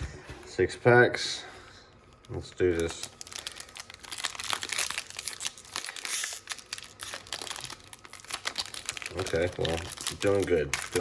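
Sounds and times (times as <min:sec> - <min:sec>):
plastic wrapper crinkling: 0:02.0 - 0:11.0.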